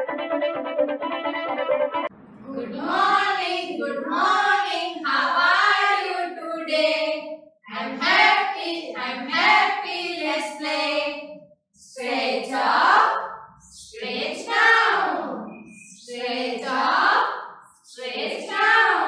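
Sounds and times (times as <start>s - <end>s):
women singing in unison: 2.5s - 19.0s.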